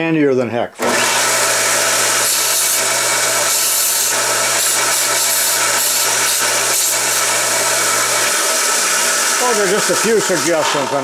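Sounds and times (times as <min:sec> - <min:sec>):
belt sander motor hum: 0:00.8 - 0:11.0.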